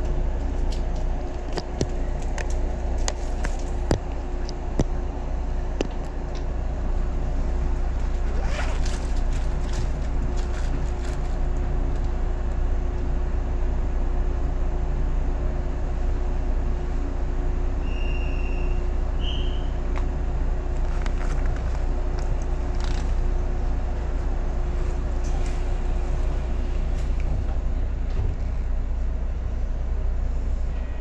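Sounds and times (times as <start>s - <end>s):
constant hum: 0.0s - 31.0s
train carriage rumble: 0.0s - 31.0s.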